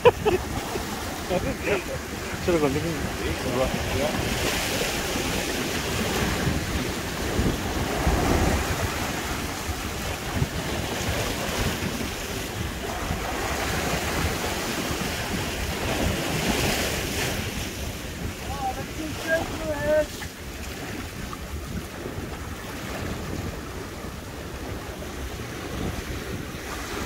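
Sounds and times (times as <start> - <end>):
waves washing over rocks: 0.0 - 27.0
wind rumbling on microphone: 0.0 - 27.0.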